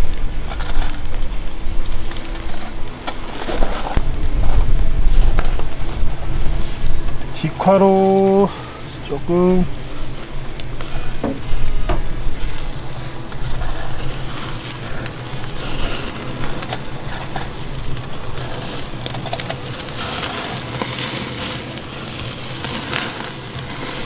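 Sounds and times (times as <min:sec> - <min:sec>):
burgers sizzling on a grill: 0:00.0 - 0:24.0.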